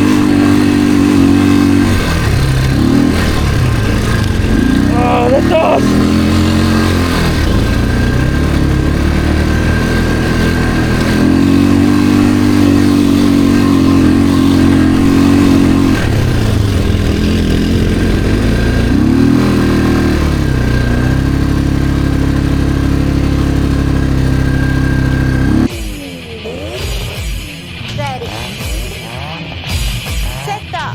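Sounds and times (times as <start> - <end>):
atv engine running: 0.0 - 30.9.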